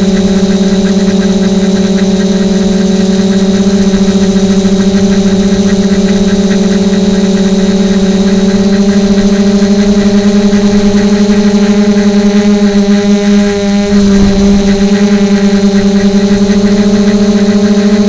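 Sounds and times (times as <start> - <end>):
quadcopter propellers buzzing: 0.0 - 18.0.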